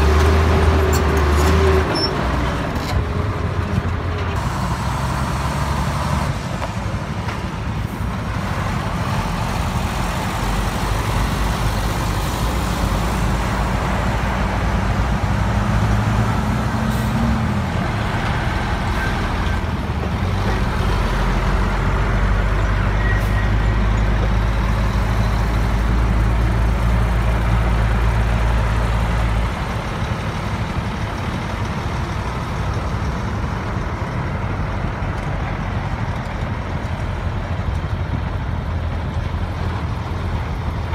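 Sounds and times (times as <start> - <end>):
heavy diesel trucks driving past: 0.0 - 40.9.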